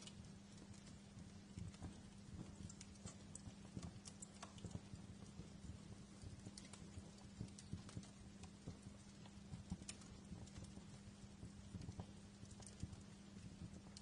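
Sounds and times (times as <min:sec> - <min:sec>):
steady low hum: 0:00.0 - 0:14.0
wood fire crackling: 0:00.0 - 0:14.0.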